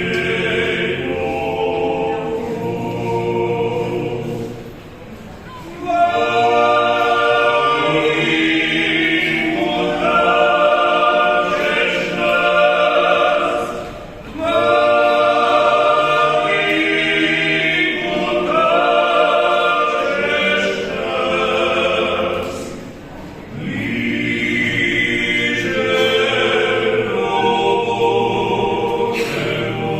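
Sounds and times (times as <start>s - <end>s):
a cappella choir singing: 0.0s - 29.9s.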